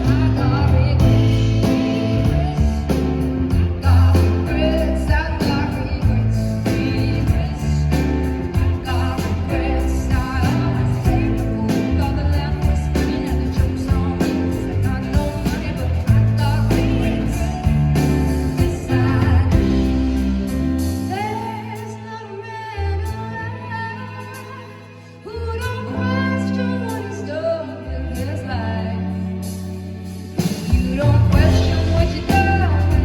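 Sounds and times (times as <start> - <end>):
woman singing: 0.0 - 29.6, 30.6 - 33.0
live band music: 0.0 - 33.0.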